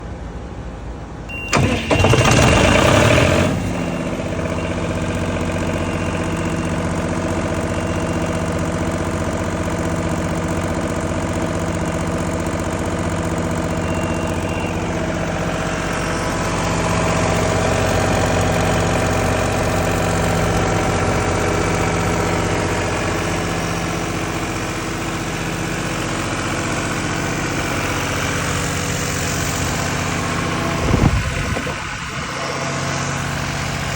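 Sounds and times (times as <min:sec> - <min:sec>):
diesel engine running: 0:00.0 - 0:33.9
starter motor cranking: 0:01.5 - 0:32.3.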